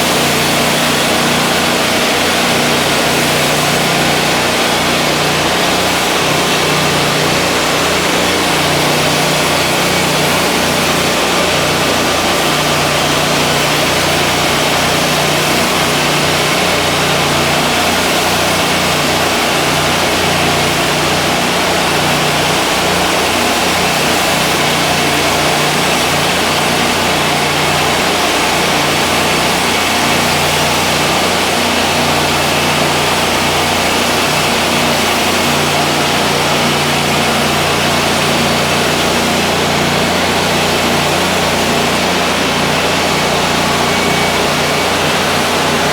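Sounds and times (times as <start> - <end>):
steady hiss: 0.0 - 41.8
sawmill engine drone: 0.0 - 45.9.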